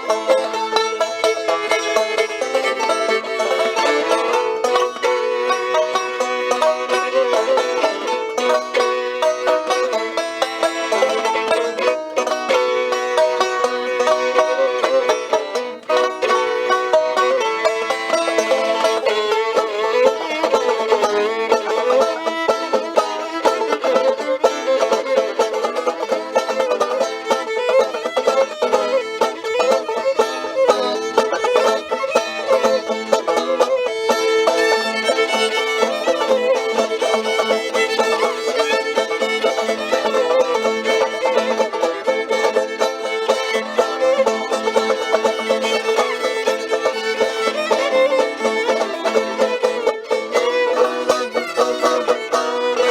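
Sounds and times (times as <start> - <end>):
fiddle playing a tune: 0.0 - 52.9
plucked-string accompaniment: 0.0 - 52.9.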